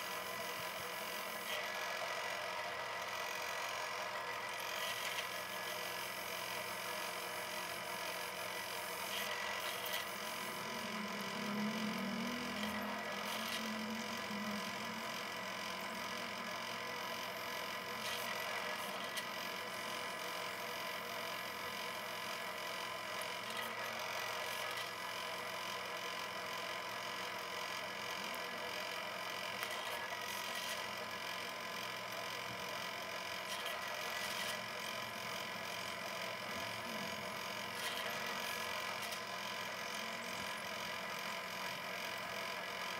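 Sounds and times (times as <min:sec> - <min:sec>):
drill press boring metal: 0:00.0 - 0:42.9.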